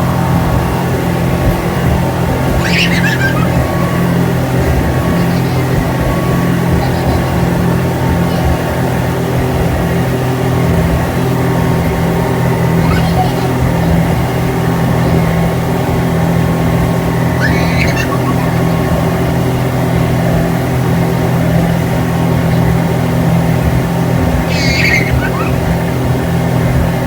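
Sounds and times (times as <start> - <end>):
speedboat engine droning: 0.0 - 27.0.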